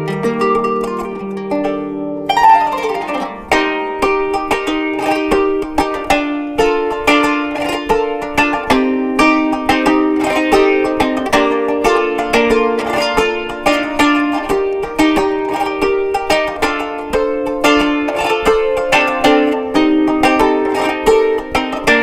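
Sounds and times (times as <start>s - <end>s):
plucked zither melody: 0.0s - 22.0s.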